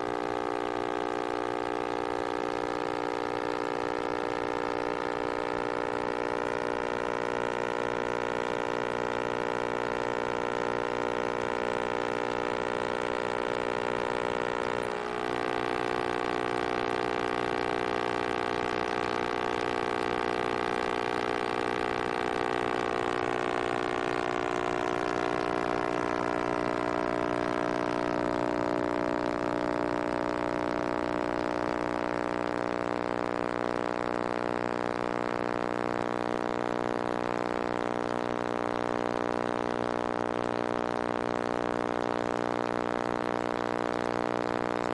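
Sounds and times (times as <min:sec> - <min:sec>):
microwave oven humming: 0:00.0 - 0:44.9.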